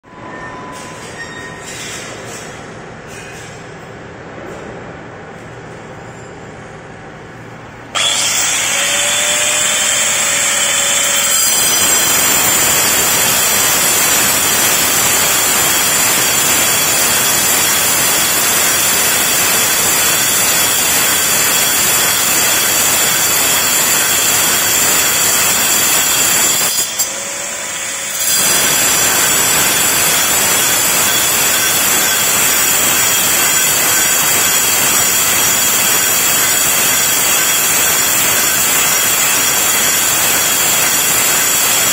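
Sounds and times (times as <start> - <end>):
angle grinder cutting steel: 8.0 - 41.9.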